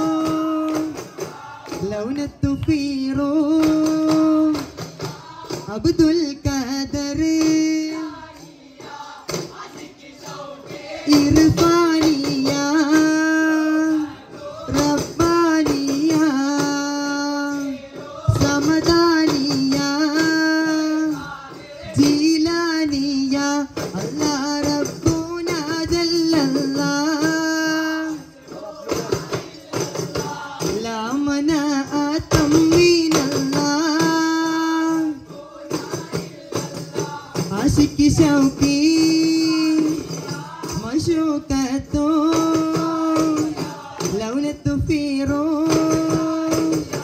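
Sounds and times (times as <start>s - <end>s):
frame drums beaten by hand: 0.0s - 47.0s.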